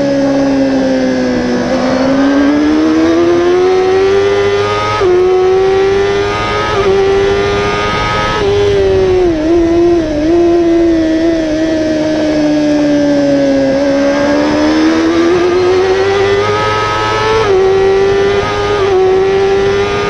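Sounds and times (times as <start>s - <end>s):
motorcycle engine revving: 0.0s - 20.0s
wind rush: 0.1s - 20.0s.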